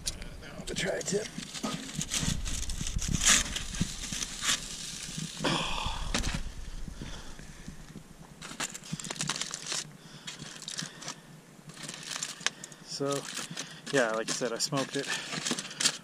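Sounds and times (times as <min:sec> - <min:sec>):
aluminium foil crinkling: 0:00.7 - 0:06.5, 0:07.8 - 0:16.0.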